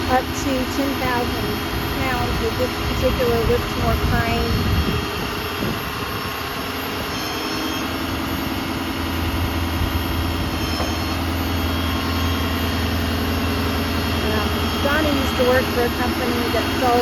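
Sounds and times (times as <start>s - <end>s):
diesel engine idling low hum: 0.0s - 17.0s
hydraulic pump higher tone: 0.0s - 17.0s.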